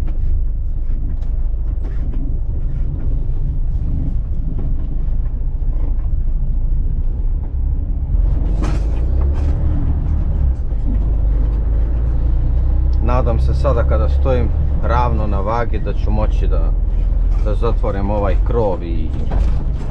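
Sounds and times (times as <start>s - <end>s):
creaking and rattling: 0.0s - 19.9s
truck diesel engine rumbling: 0.0s - 19.9s.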